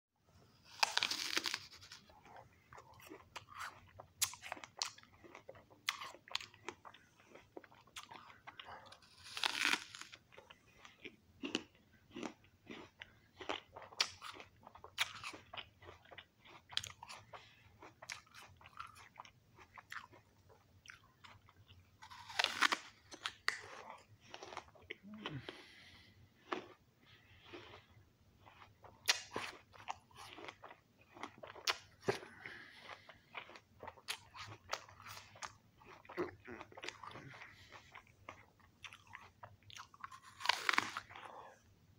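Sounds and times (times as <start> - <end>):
apple being bitten and chewed: 0.6 - 41.6.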